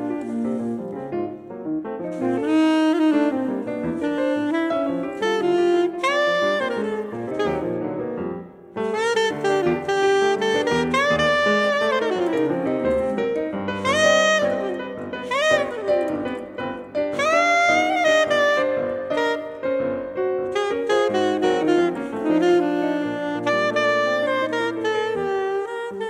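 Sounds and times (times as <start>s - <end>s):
grand piano accompaniment: 0.0s - 26.0s
soprano saxophone jazz melody: 0.0s - 26.0s.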